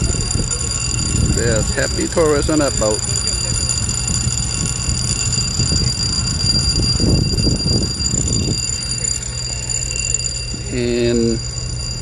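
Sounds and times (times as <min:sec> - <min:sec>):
high-pitched warning siren: 0:00.0 - 0:12.0.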